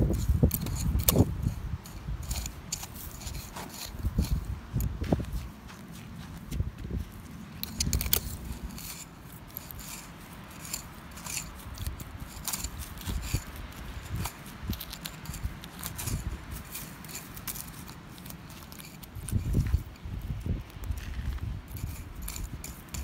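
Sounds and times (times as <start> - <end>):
screwdriver scraping in sandy soil: 0.0 - 23.0.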